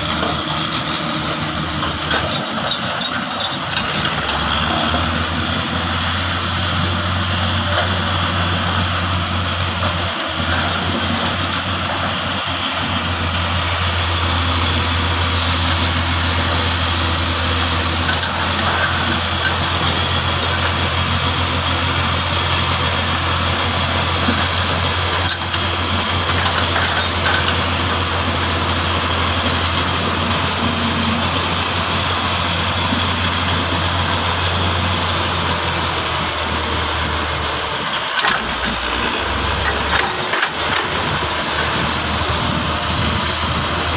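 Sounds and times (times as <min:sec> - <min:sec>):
diesel engines droning: 0:00.0 - 0:43.9.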